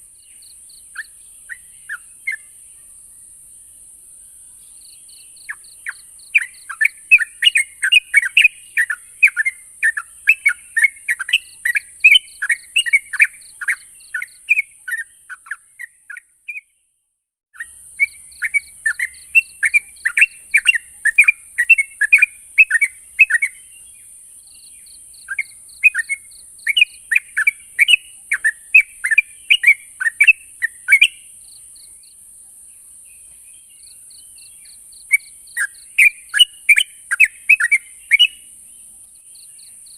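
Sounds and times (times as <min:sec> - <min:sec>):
bird chattering song: 0:00.0 - 0:03.1, 0:04.5 - 0:16.7, 0:17.6 - 0:32.0, 0:33.1 - 0:39.9.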